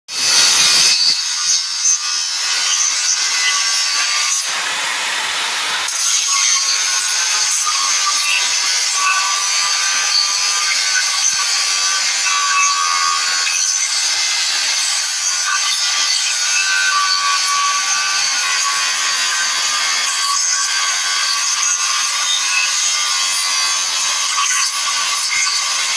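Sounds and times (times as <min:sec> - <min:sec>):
power tool on metal: 0:00.1 - 0:25.9.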